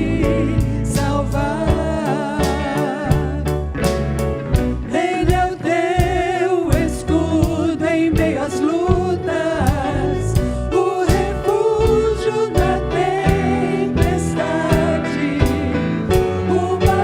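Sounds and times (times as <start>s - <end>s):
voices singing with vibrato: 0.0s - 3.5s, 4.8s - 17.0s
band with bass and drums: 0.0s - 17.0s.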